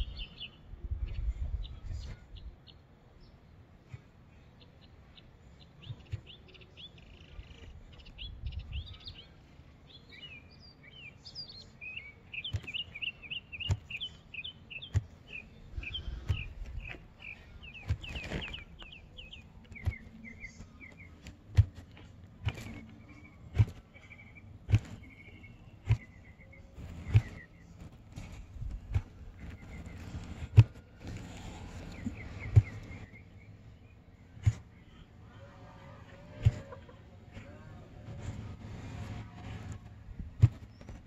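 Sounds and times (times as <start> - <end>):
songbird chirping: 0.0 - 41.0.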